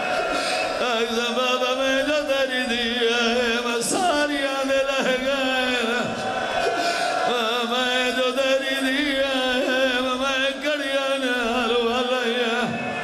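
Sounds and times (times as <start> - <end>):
man chanting a lament: 0.0 - 13.0.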